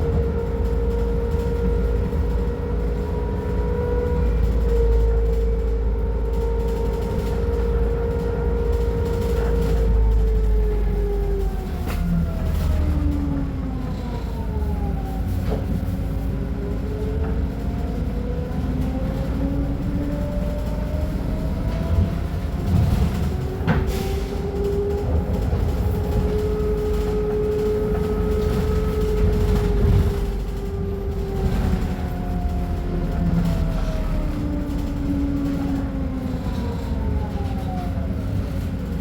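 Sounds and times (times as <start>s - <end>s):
bus engine rumble and whine: 0.0s - 39.0s.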